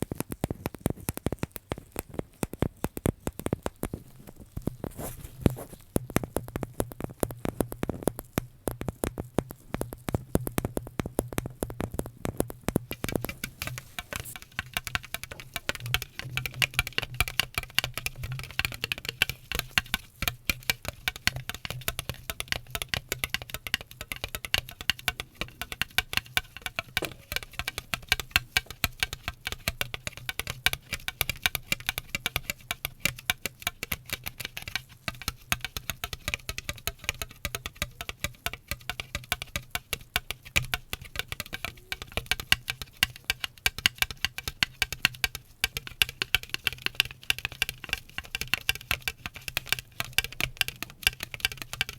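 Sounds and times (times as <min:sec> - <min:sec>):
fast tapping and clicking: 0:06.0 - 0:51.9.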